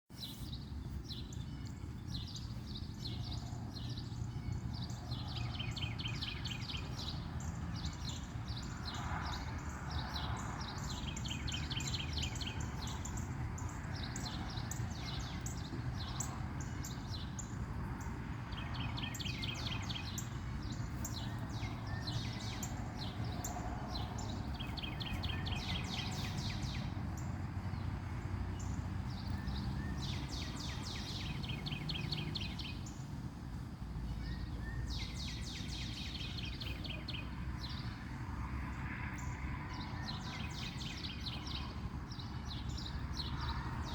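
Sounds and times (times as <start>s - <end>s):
birds singing and chirping: 0.2s - 38.0s, 39.1s - 43.9s.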